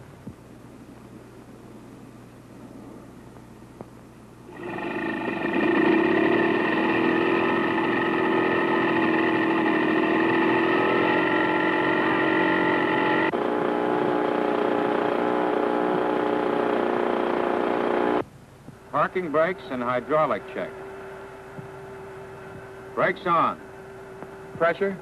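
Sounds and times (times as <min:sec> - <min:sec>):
portable generator running: 0:04.4 - 0:25.0.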